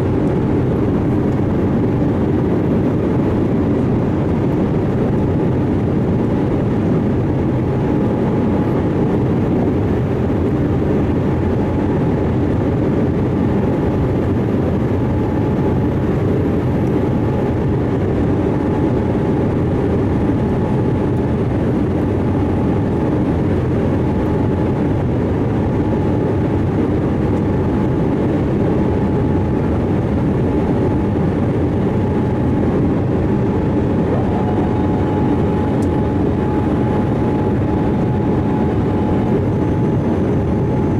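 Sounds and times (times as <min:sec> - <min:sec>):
airliner jet noise: 0:00.0 - 0:40.9
faint steady whine: 0:00.0 - 0:40.9.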